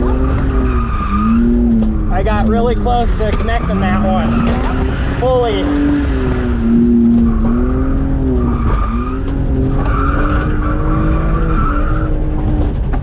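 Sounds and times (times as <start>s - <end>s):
car engine revving high: 0.0s - 12.9s
tires squealing: 0.0s - 13.0s.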